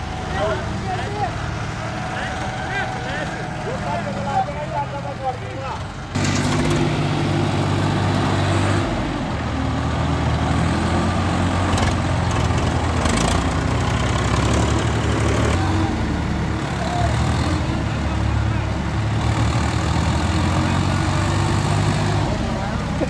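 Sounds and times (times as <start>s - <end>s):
tractor diesel engines under load: 0.0s - 23.0s.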